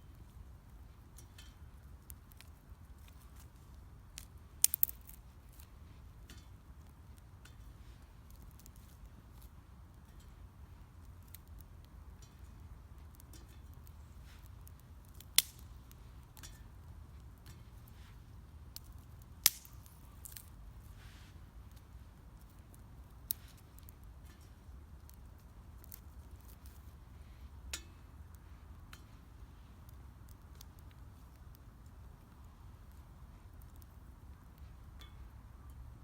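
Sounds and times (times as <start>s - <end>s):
wood fire crackling: 0.0s - 35.1s.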